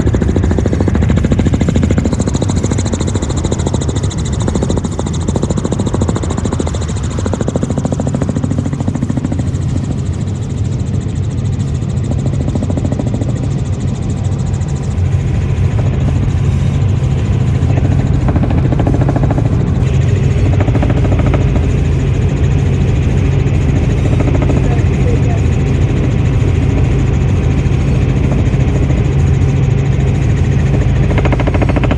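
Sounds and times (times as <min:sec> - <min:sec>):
helicopter engine and rotor: 0:00.0 - 0:31.9.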